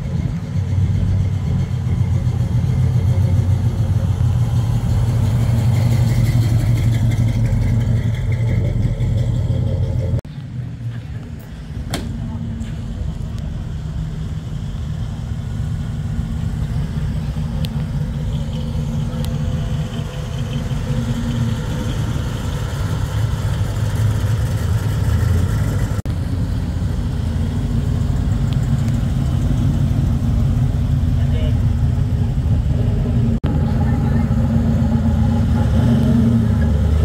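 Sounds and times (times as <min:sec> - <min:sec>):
car engines passing slowly: 0:00.0 - 0:37.0.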